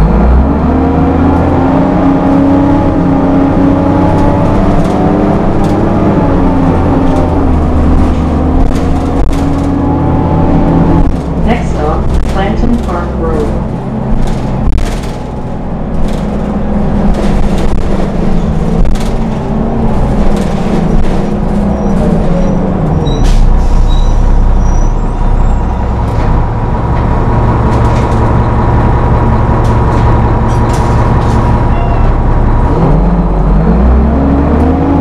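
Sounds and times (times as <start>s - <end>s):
bus engine idling: 1.7s - 33.6s.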